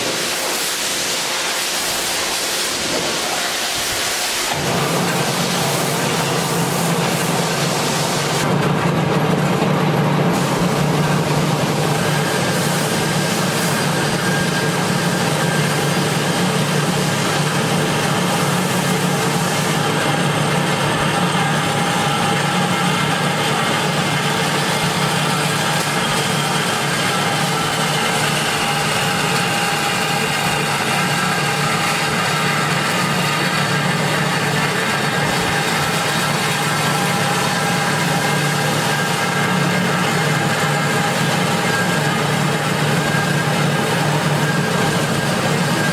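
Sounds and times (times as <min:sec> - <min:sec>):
band saw cutting metal tube: 0:00.0 - 0:45.9.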